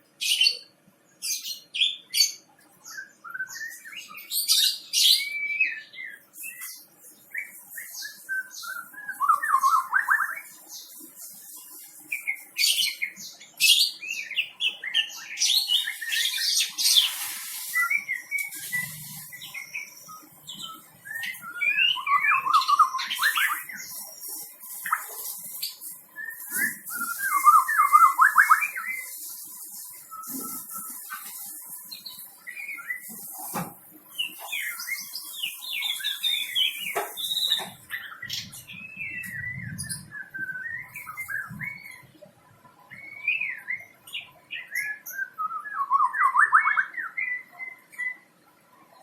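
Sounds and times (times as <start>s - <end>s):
bird singing whistles and trills: 1.3s - 11.5s, 12.1s - 33.5s, 34.1s - 42.2s, 42.9s - 48.4s.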